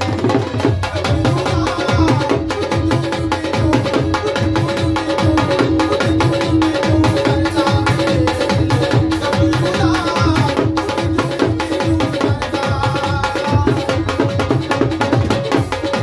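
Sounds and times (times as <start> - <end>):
fast hand-drum rhythm: 0.0 - 16.0.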